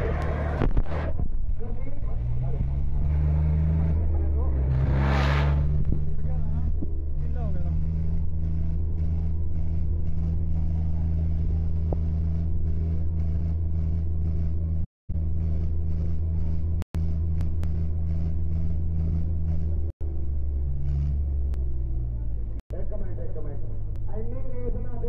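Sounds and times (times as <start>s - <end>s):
tractor diesel engines droning: 0.0s - 25.0s.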